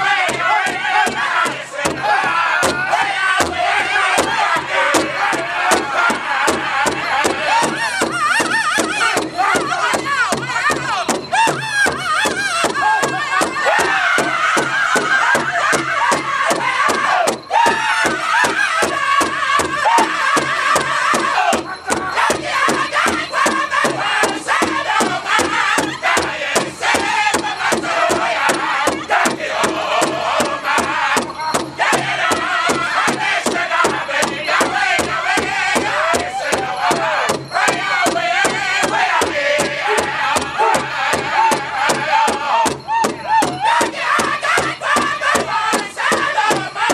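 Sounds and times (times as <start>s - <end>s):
large hide drum beat: 0.0s - 46.9s
men singing in unison: 0.0s - 46.9s.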